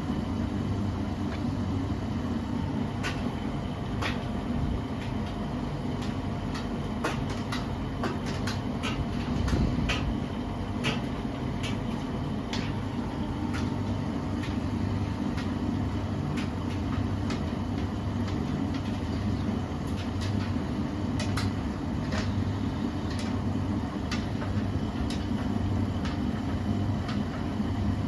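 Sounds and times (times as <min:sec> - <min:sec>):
washing machine rumbling: 0:00.0 - 0:28.0.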